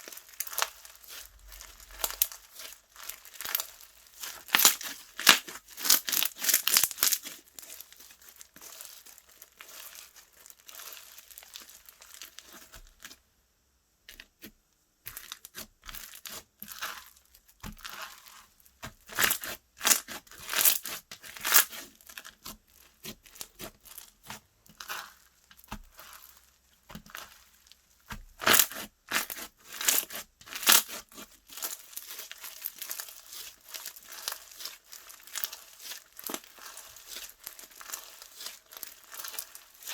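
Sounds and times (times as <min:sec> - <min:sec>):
slime squished by hand crackling: 0:00.0 - 0:12.8, 0:19.1 - 0:39.9.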